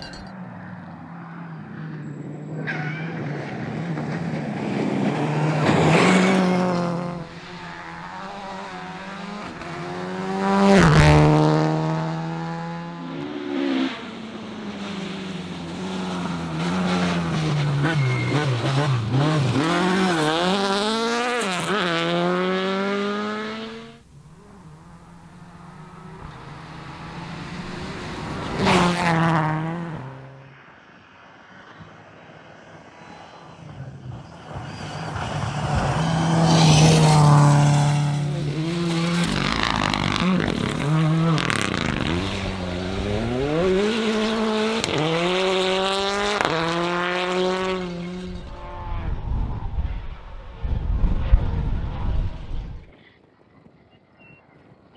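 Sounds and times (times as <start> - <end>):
cars rushing past: 0.0 - 50.2
rally car engines revving: 1.0 - 30.6, 34.0 - 50.4.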